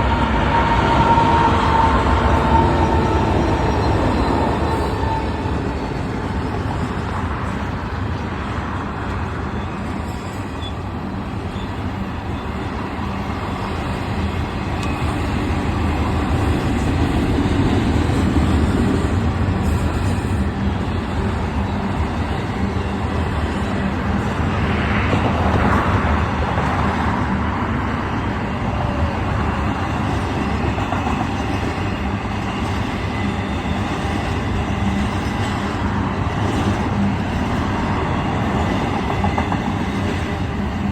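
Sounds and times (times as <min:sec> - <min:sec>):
diesel locomotives low drone: 0:00.0 - 0:40.9.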